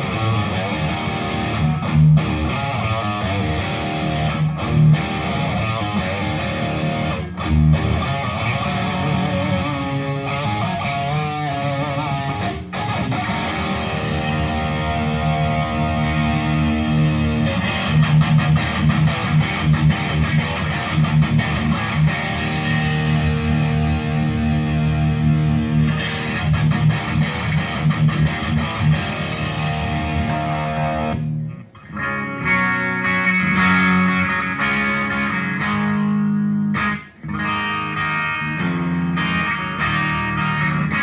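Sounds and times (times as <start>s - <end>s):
distorted electric guitar chords: 0.0s - 41.0s.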